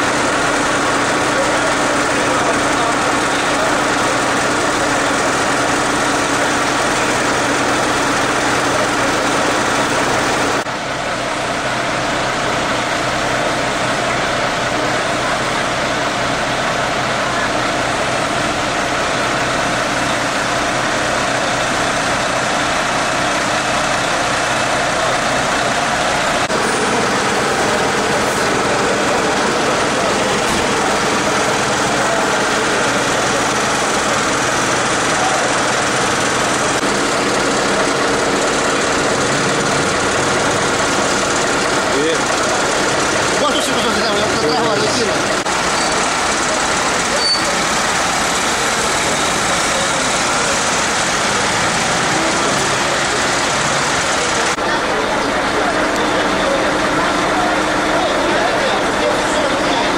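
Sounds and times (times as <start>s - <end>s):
loud mechanical drone: 0.0s - 59.9s.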